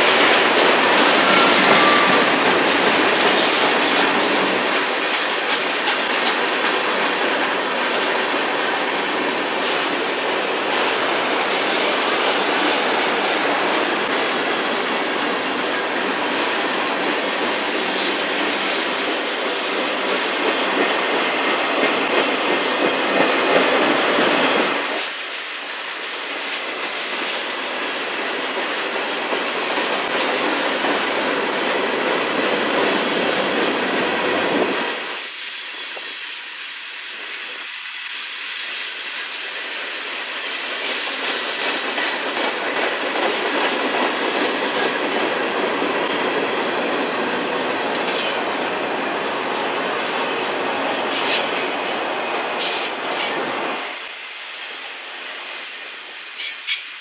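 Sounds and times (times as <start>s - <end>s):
train wheels clattering on rails: 0.0s - 54.2s, 55.5s - 57.0s.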